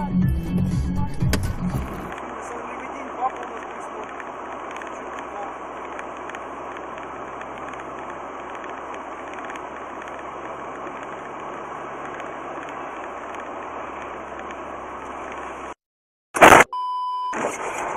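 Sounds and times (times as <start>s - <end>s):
car driving road noise: 1.2s - 15.8s.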